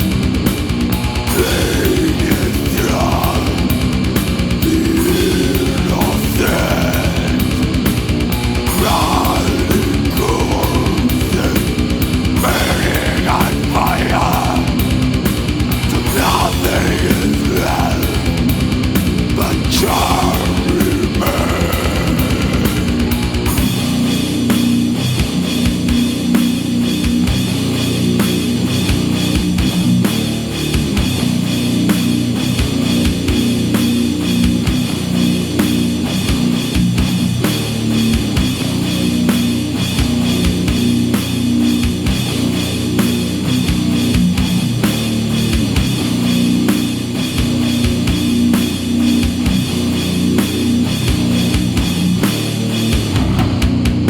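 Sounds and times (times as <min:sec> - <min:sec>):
distorted electric guitar riffing: 0:00.0 - 0:54.0
drum kit with rapid bass drum: 0:00.0 - 0:54.0.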